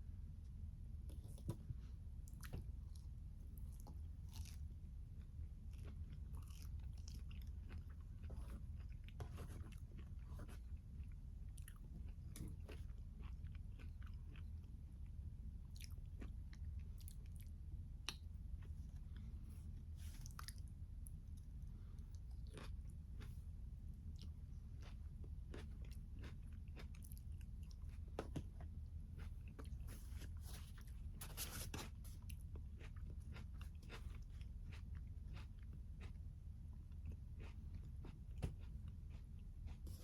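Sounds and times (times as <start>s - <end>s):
steady low hum: 0.0s - 40.0s
chewing with wet crunches: 2.3s - 19.3s, 20.1s - 29.9s, 31.8s - 40.0s.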